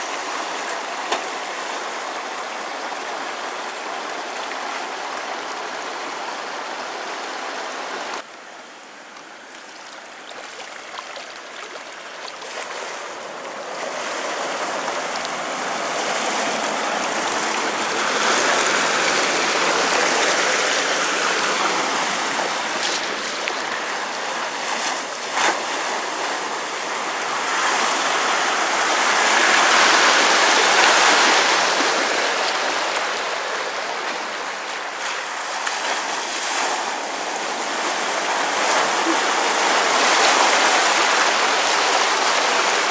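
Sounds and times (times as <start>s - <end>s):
water rushing and splashing: 0.0s - 42.9s.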